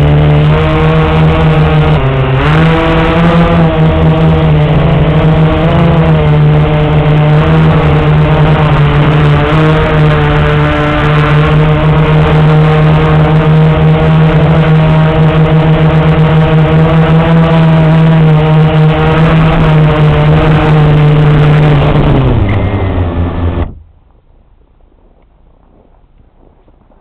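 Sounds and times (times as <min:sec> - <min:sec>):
quadcopter motors whirring: 0:00.0 - 0:22.8.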